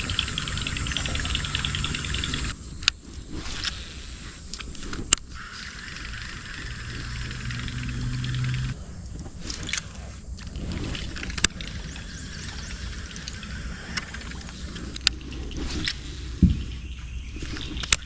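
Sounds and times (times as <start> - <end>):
low motor hum: 0.0 - 3.0, 5.4 - 18.0
sharp clicks: 0.0 - 16.2, 17.4 - 18.0
insect drone: 0.0 - 18.0.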